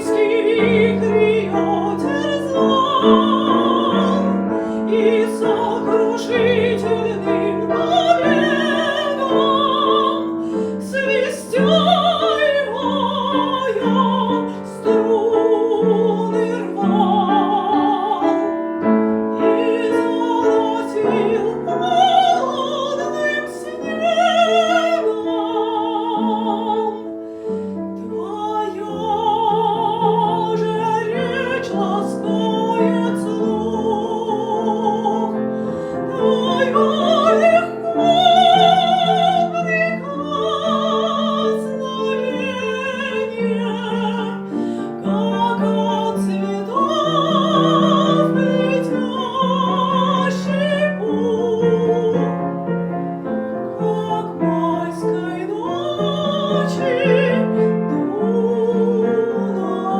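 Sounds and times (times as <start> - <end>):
woman singing with vibrato: 0.0 - 18.6, 19.3 - 27.1, 28.0 - 52.3, 53.6 - 59.9
piano chords: 0.0 - 59.9.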